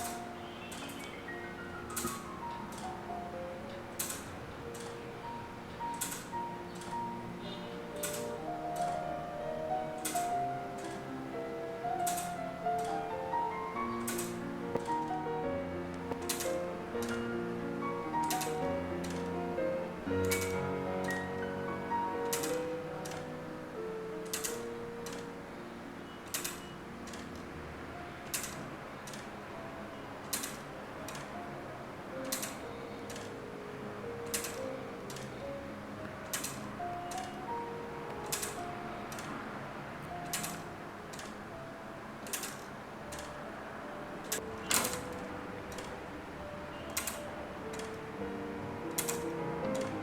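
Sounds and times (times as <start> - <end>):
soft background music: 0.0 - 50.0
wooden clock ticking: 0.0 - 50.0.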